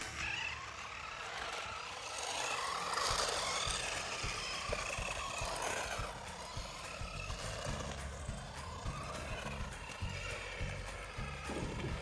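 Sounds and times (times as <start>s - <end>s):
toy car electric motor whining: 0.0s - 12.0s.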